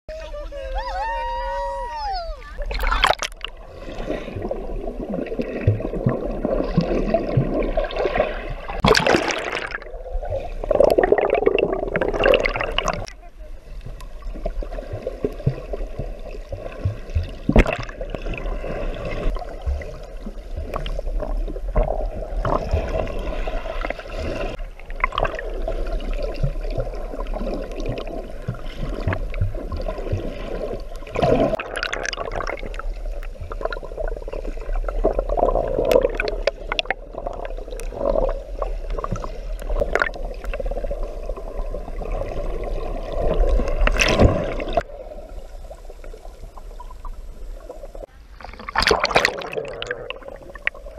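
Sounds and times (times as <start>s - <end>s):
muffled underwater water churning: 0.1s - 50.9s
bubbles: 2.6s - 13.2s, 13.9s - 50.9s.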